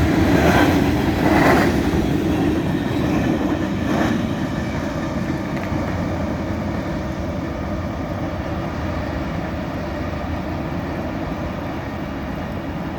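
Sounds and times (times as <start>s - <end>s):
freight train rumbling past: 0.0s - 12.9s.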